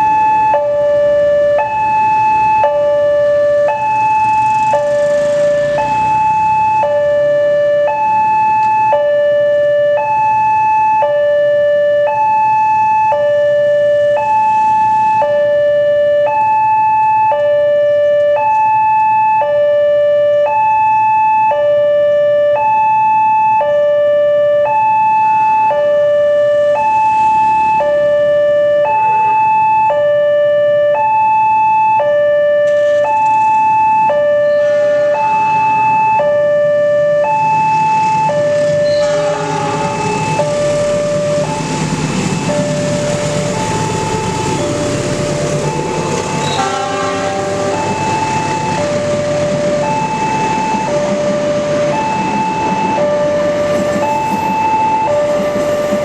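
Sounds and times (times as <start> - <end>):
two-tone crossing alarm: 0.0 - 56.0.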